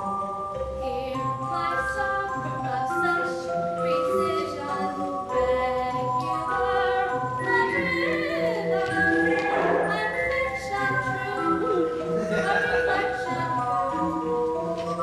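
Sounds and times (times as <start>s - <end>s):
stage musical music: 0.0s - 15.0s.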